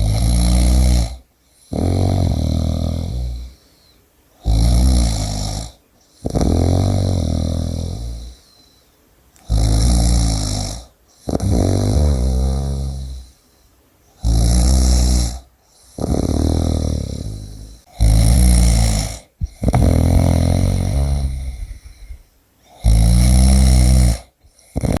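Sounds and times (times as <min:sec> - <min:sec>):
person snoring loudly: 0:00.0 - 0:03.6, 0:04.4 - 0:08.4, 0:09.4 - 0:13.4, 0:14.2 - 0:25.0.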